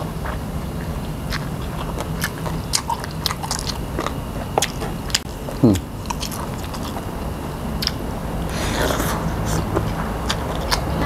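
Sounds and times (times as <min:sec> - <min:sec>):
slurping and chewing: 0:00.0 - 0:11.0
wet mouth clicks and crunches: 0:00.3 - 0:07.1, 0:07.8 - 0:08.0, 0:09.0 - 0:10.9.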